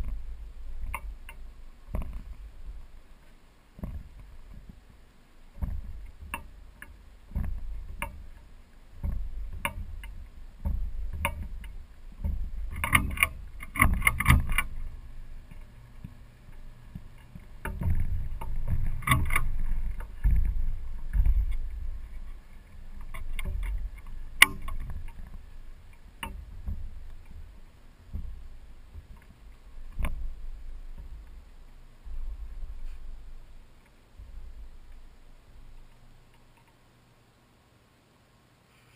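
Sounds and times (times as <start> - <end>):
air buffeting microphone: 0.0 - 36.6
clicks and rattles: 5.5 - 36.8.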